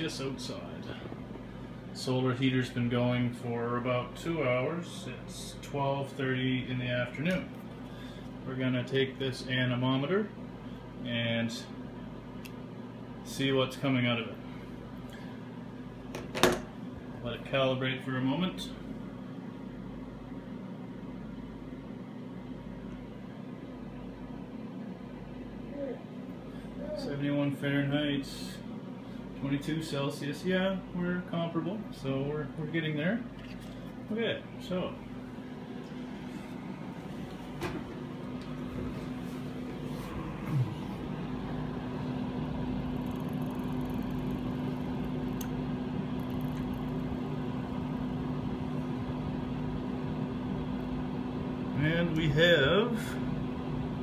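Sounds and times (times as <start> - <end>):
warm air blowing from vent: 0.0 - 54.0.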